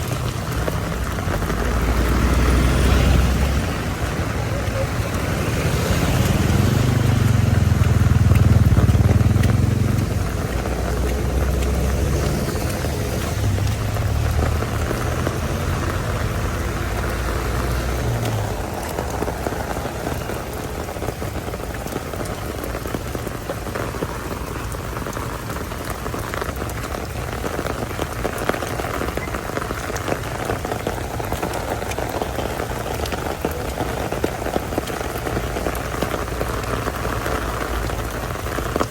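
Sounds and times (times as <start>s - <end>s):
heavy rain splashing: 0.0s - 38.9s
low vehicle rumble: 0.0s - 38.9s.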